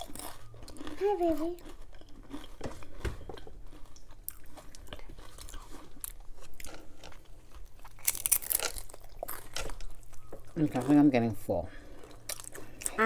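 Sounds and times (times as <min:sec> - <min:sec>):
chewing potato chips: 0:00.0 - 0:13.0.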